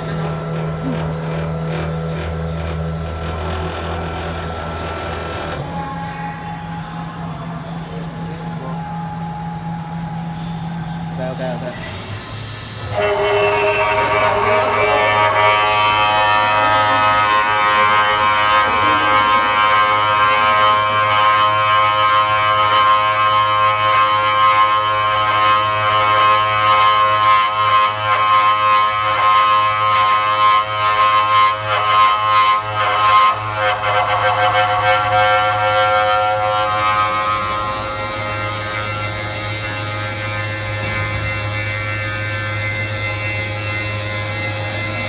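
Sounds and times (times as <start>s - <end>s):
drilling machine whine: 0.0s - 45.0s
low machine hum: 0.0s - 45.0s.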